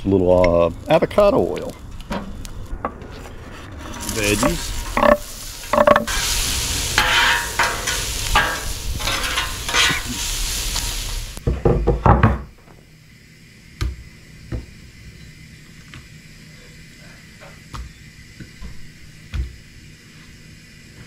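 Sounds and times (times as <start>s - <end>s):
vegetables sizzling on a griddle: 0.0s - 2.7s, 3.8s - 21.0s.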